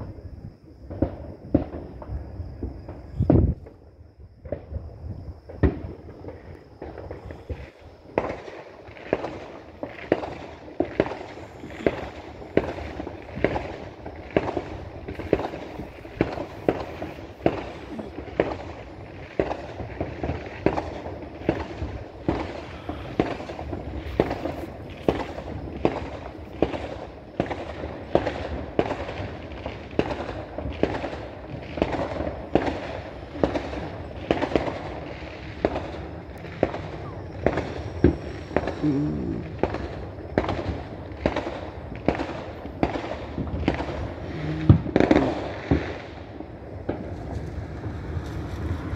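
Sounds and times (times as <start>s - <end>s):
fireworks and firecrackers banging: 0.0s - 48.9s.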